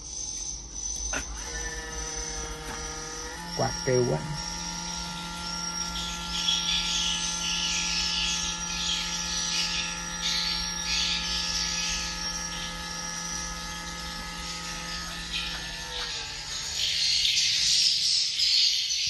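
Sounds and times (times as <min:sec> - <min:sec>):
fan hum: 0:00.0 - 0:18.4
high chirping twitters from speakers: 0:00.0 - 0:19.0.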